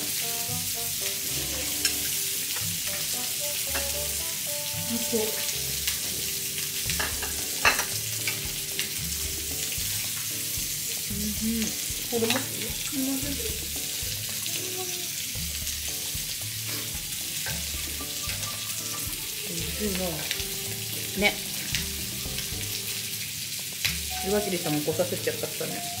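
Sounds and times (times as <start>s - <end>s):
pork sizzling on a grill: 0.0s - 26.0s.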